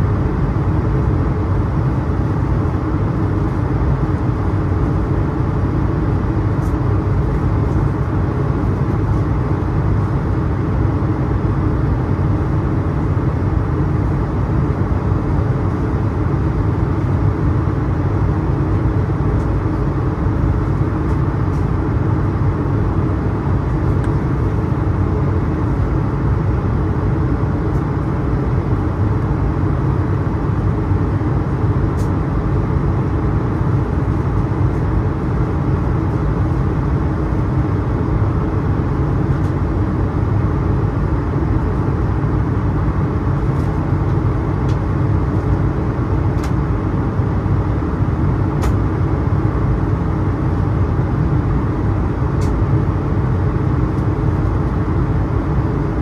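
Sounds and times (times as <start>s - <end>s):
aircraft cabin roar: 0.0s - 56.0s.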